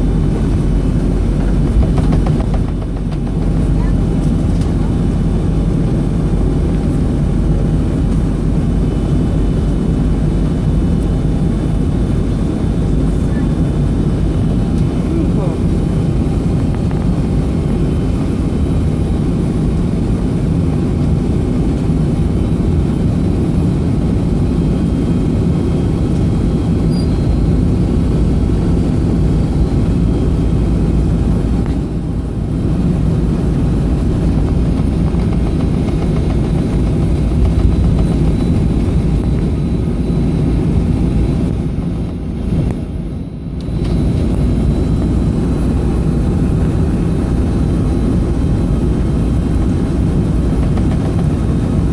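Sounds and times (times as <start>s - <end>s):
jet engines idling in cabin: 0.0s - 51.9s.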